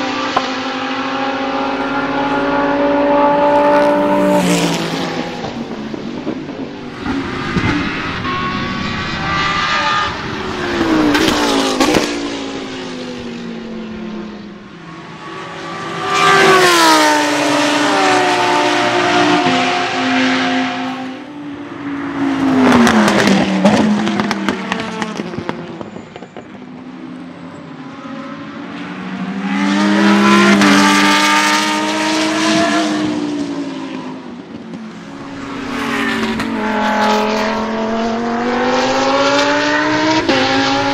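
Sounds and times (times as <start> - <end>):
race car engine revving: 0.0 - 25.8, 28.0 - 34.0, 34.8 - 40.9.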